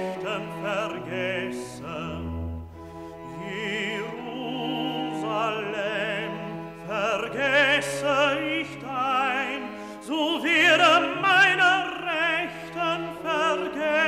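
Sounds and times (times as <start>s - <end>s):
operatic voice singing: 0.0s - 2.4s, 3.2s - 14.0s
orchestral accompaniment: 0.0s - 14.0s.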